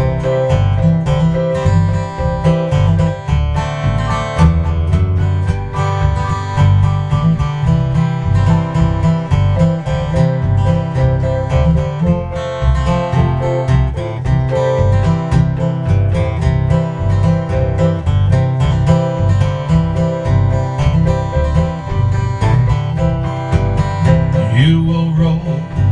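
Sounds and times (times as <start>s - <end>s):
acoustic guitar strumming: 0.0s - 25.9s
keyboard playing: 0.0s - 25.9s.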